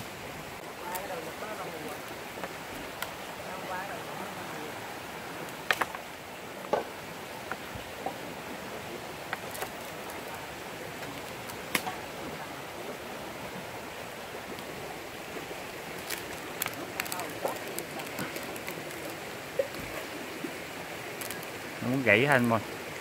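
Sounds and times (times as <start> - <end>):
stream rushing: 0.0 - 23.0.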